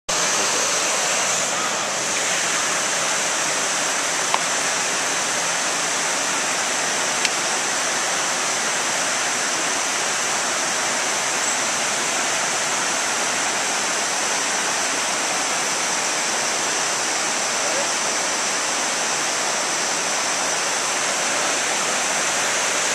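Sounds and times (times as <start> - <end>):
water rushing below a dam: 0.1 - 22.9.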